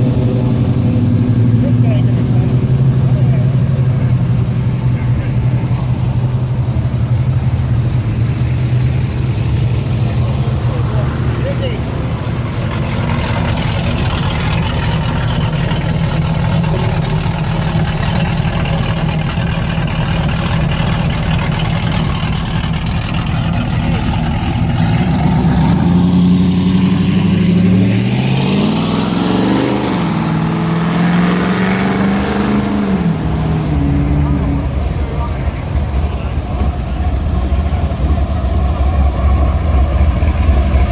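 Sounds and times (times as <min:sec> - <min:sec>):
car engine rumbling and revving: 0:00.0 - 0:40.9.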